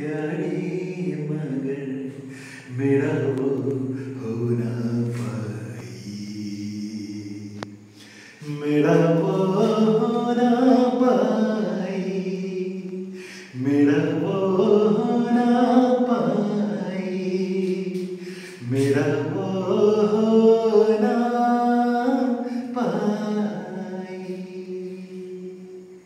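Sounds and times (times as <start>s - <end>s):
man singing held notes: 0.0s - 26.0s.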